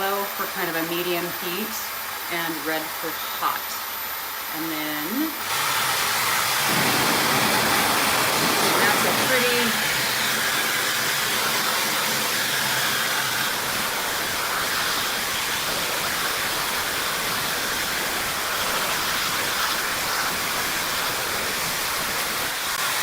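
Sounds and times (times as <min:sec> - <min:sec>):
hair dryer blowing air: 0:00.0 - 0:23.0.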